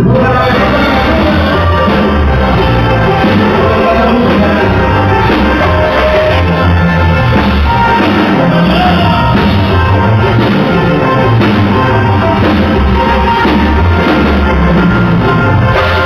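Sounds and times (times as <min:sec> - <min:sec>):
person singing: 0:00.0 - 0:14.0
live band music: 0:00.0 - 0:16.0
steady bass beat: 0:00.0 - 0:16.0.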